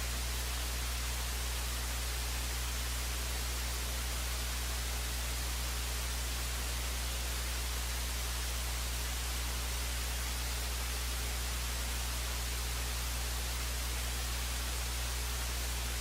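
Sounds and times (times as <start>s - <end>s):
low electrical hum: 0.0s - 16.0s
static hiss: 0.0s - 16.0s.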